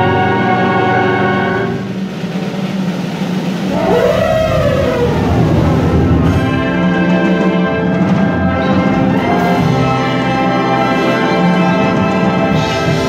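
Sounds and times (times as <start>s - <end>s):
wind band playing chords: 0.0s - 13.0s.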